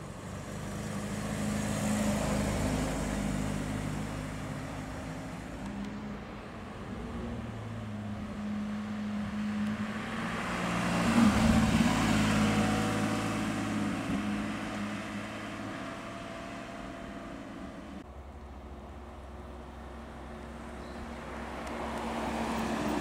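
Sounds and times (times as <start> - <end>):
car engine passing slowly: 0.0 - 23.0.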